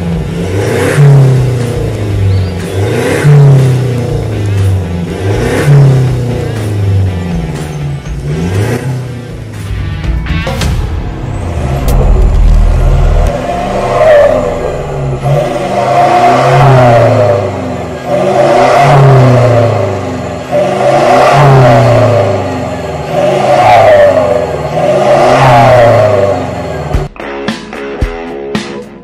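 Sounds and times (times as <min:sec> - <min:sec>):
diesel engine revving: 0:00.0 - 0:09.9, 0:10.5 - 0:27.1.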